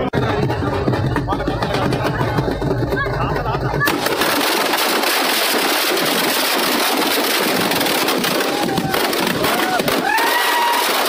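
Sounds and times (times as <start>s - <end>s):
firecrackers crackling: 0.2s - 11.0s.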